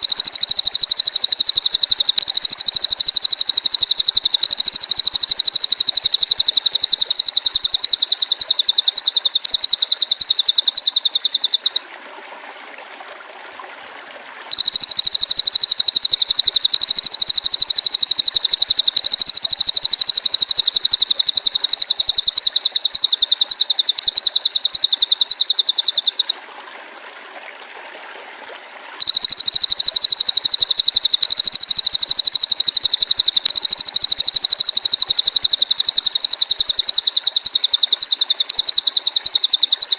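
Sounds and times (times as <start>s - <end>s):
pulsed buzzing bird trill: 0.0s - 11.8s, 14.5s - 26.4s, 29.0s - 39.9s.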